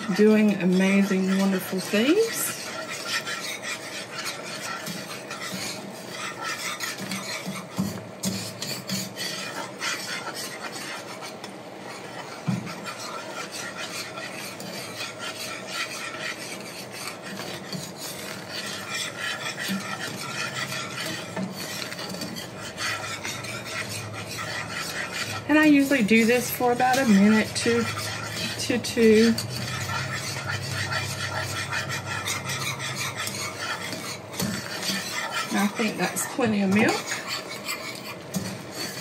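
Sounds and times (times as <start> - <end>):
whisk scraping a pan: 0.0 - 39.0.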